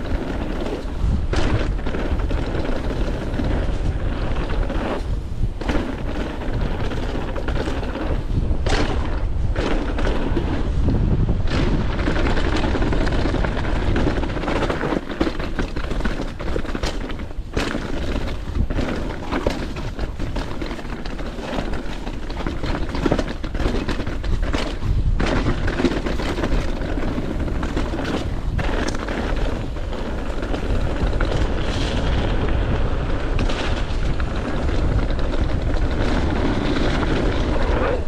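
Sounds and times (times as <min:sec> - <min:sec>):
mountain bike rattling: 0:00.0 - 0:38.0
wind buffeting microphone: 0:00.0 - 0:38.0
sharp knocks from bike: 0:00.1 - 0:04.5, 0:05.6 - 0:32.6.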